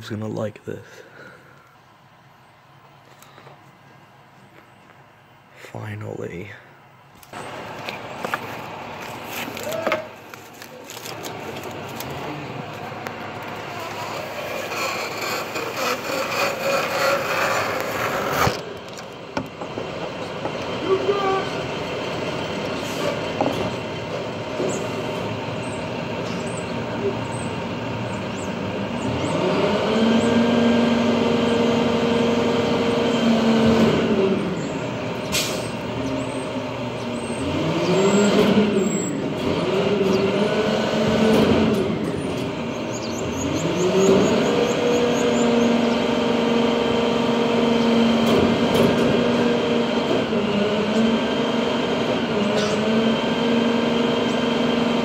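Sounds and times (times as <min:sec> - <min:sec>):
garbage truck engine revving: 0:07.4 - 0:55.0.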